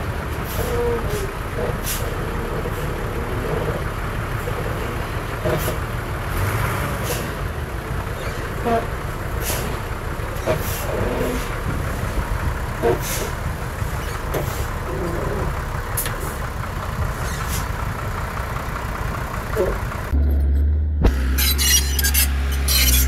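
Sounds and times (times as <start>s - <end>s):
diesel earthmoving machinery running: 0.0s - 23.0s.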